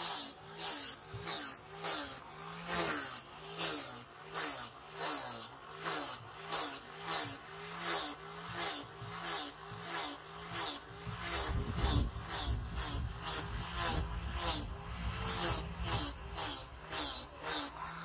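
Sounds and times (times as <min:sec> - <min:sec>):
angle grinder sanding wood: 0:00.0 - 0:18.0.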